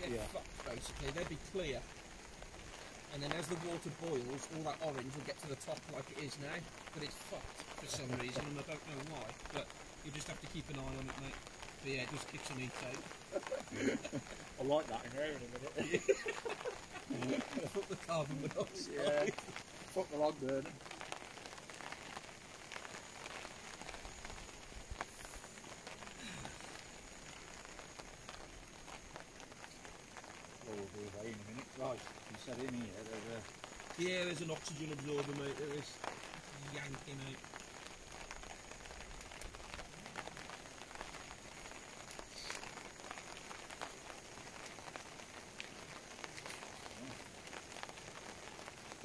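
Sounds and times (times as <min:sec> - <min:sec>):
rain falling steadily: 0:00.0 - 0:49.0.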